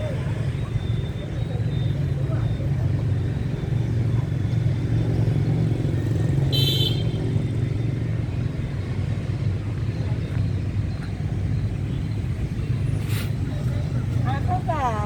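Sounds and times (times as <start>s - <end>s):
motorbike engines: 0.0s - 15.0s
road traffic rumble: 0.0s - 15.0s.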